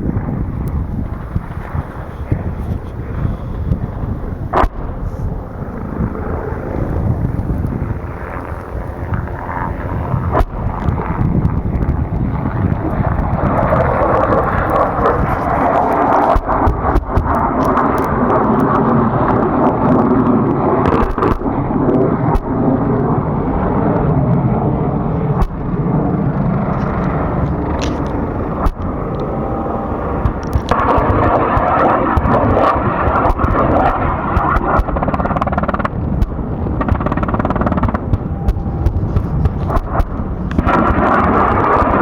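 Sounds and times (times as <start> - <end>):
helicopter engine and rotor rumble: 0.0 - 42.0.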